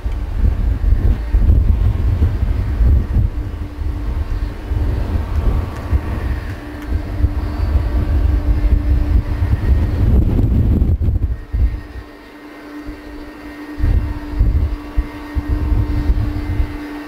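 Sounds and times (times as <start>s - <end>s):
faint jet engine whine: 0.0s - 17.0s
jet engines rumbling: 0.0s - 17.0s.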